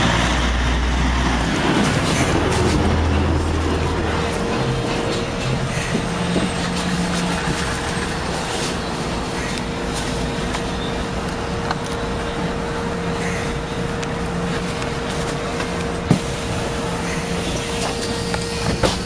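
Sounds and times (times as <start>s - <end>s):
bus engine and road rumble: 0.0s - 19.0s
constant hum: 0.0s - 19.0s.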